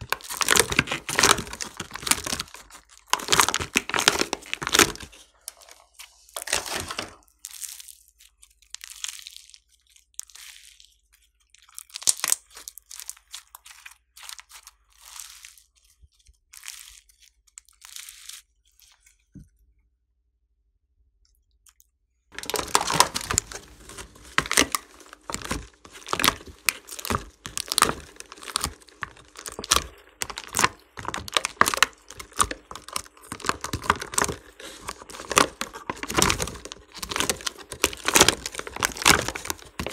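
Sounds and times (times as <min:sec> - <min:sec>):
plastic bags crinkling: 0:00.0 - 0:19.1, 0:22.3 - 0:39.9
slime squishing by hand: 0:00.0 - 0:19.7, 0:21.6 - 0:39.9.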